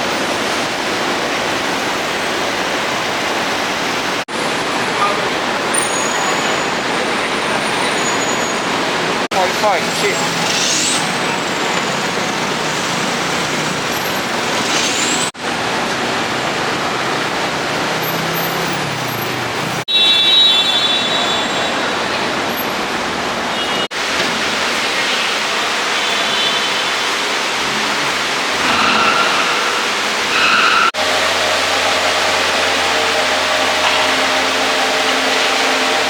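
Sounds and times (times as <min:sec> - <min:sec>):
road traffic rush: 0:00.0 - 0:36.0.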